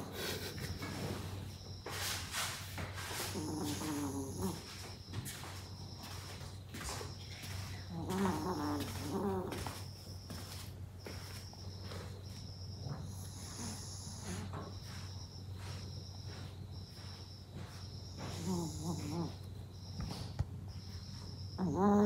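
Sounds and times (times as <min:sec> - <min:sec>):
crickets chirping: 0:00.0 - 0:22.0
steady low hum: 0:00.0 - 0:22.0.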